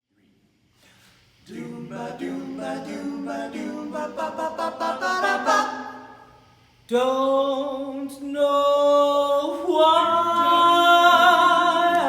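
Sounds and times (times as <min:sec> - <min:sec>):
a cappella group singing in harmony: 0:01.4 - 0:12.0.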